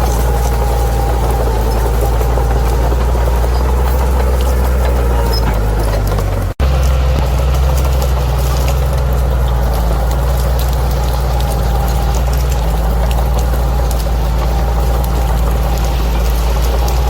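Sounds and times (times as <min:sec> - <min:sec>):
bulldozer diesel engine droning: 0:00.0 - 0:17.0
clicks and crackles: 0:00.0 - 0:17.0.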